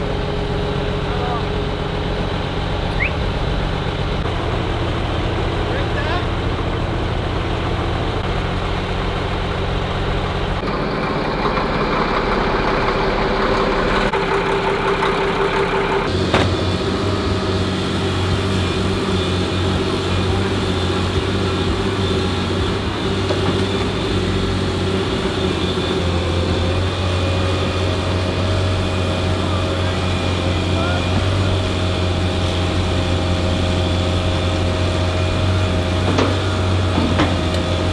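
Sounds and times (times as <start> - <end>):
heavy diesel engines running: 0.0 - 37.9.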